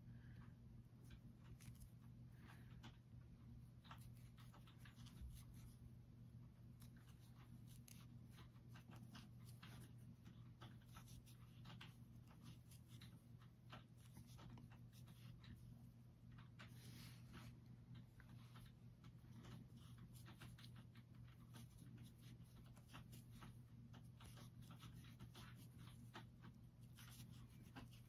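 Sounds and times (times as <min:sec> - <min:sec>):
low steady hum: 0:00.0 - 0:28.0
crochet hook ticks and rustles: 0:00.2 - 0:28.0.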